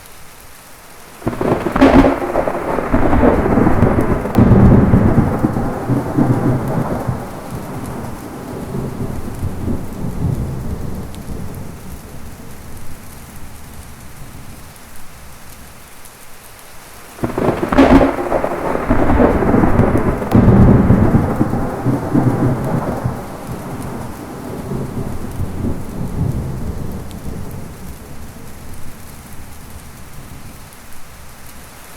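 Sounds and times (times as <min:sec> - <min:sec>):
steady rain: 0:00.0 - 0:31.9
thunderclap: 0:01.2 - 0:15.8, 0:17.2 - 0:31.3
thunder rumbling: 0:01.2 - 0:15.9, 0:17.2 - 0:31.7.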